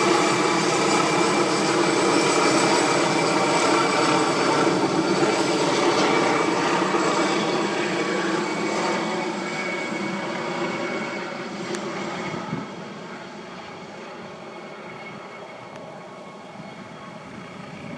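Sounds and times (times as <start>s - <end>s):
helicopter turbine and rotor: 0.0s - 17.9s.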